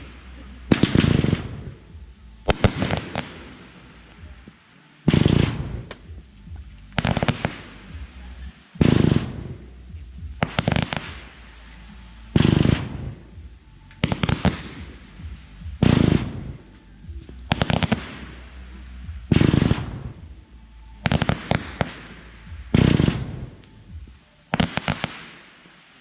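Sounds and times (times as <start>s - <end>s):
firework booms: 0.0s - 8.2s, 8.8s - 11.5s, 12.3s - 16.6s, 17.5s - 20.4s, 21.0s - 25.7s
firework crackles: 0.0s - 26.0s.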